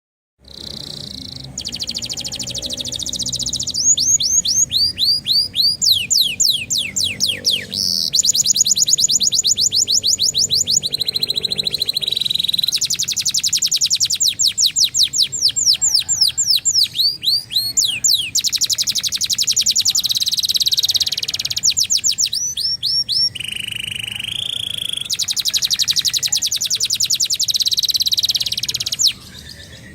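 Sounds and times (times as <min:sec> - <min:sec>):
canary singing trills: 0:00.4 - 0:29.9.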